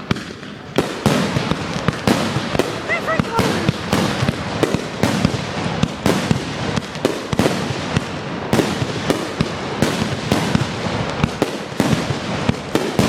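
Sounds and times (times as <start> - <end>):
fireworks sharp bangs: 0.0 - 13.0
rumbling crackle of fireworks: 0.0 - 13.0.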